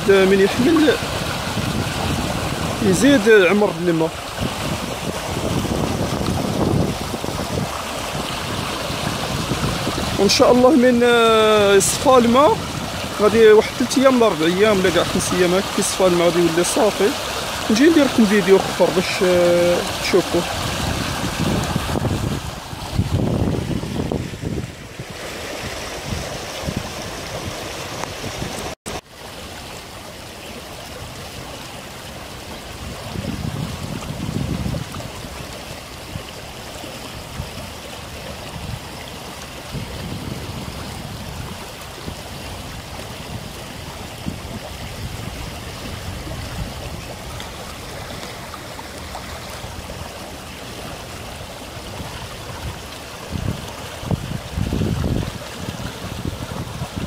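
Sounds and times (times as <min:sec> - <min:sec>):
floodwater rushing over gravel: 0:00.0 - 0:57.0.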